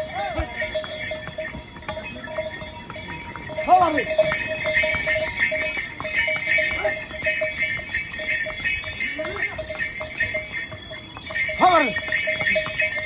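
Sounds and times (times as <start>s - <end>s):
harness bells jingling: 0.0s - 13.0s
hooves clopping on stone: 0.0s - 13.0s.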